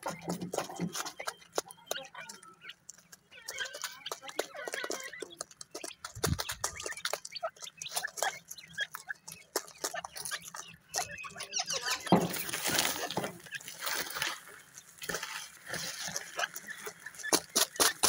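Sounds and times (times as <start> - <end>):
chicks pecking on cardboard: 0.0 - 18.0
wings fluttering: 0.0 - 18.0.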